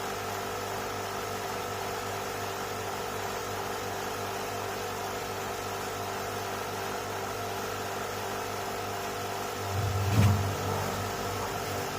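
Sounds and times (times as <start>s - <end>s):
steady mechanical hum: 0.0s - 11.9s.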